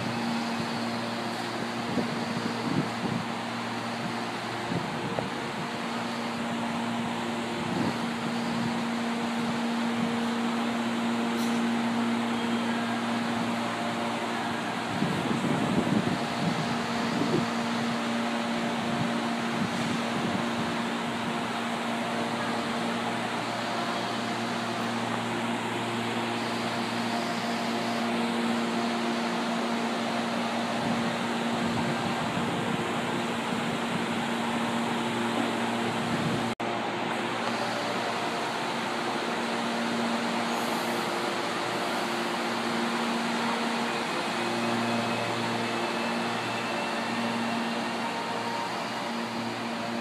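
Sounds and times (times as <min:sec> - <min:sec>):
thin high whine: 0:00.0 - 0:50.0
train air-conditioning hum and whir: 0:00.0 - 0:50.0.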